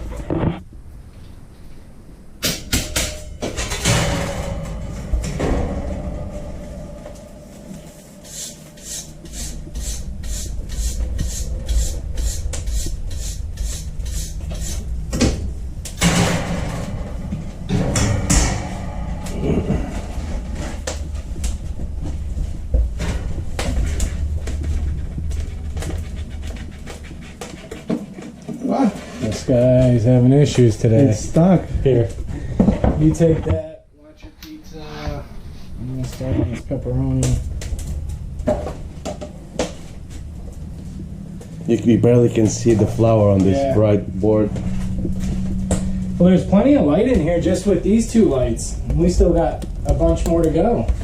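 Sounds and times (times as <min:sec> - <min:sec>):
steady low rumble: 0:03.1 - 0:28.5, 0:29.2 - 0:51.0.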